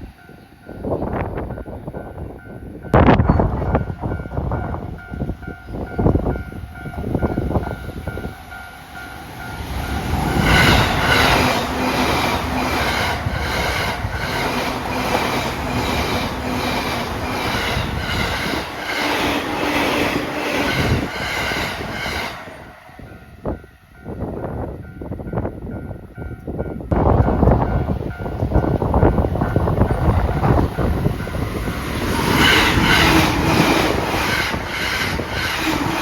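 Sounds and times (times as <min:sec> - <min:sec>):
train wheel and rail noise: 0:00.0 - 0:36.0.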